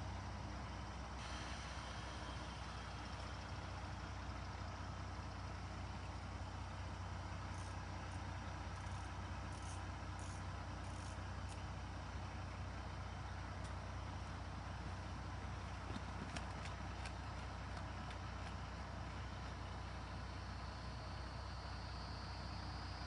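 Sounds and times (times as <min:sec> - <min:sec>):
diesel railcar engine idling: 0:00.0 - 0:23.0.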